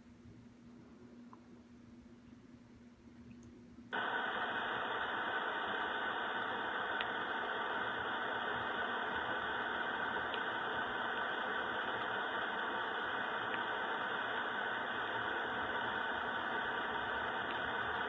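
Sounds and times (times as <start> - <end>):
faint hum: 0.0 - 18.0
steady hiss-like noise: 0.0 - 18.0.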